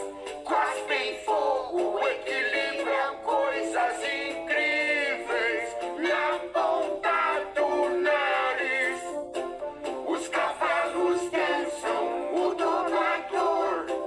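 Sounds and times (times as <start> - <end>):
light musical accompaniment: 0.0 - 14.0
person singing children's song: 0.0 - 14.0.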